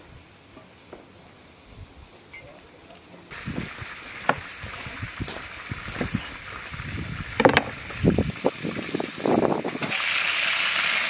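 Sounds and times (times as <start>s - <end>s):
outdoor air hiss: 0.0s - 11.0s.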